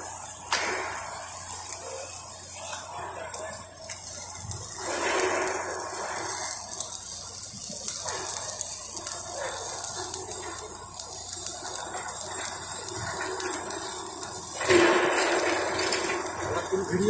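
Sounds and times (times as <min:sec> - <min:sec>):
welding arc hissing crackle: 0:00.0 - 0:17.0.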